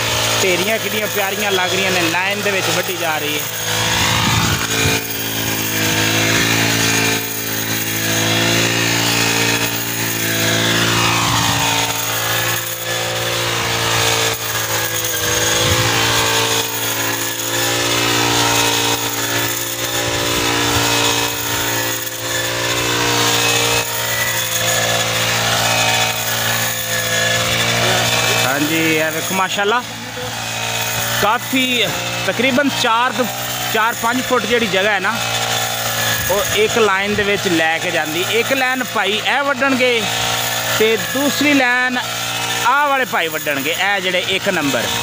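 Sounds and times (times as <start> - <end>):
brush cutter engine cutting: 0.0 - 45.0.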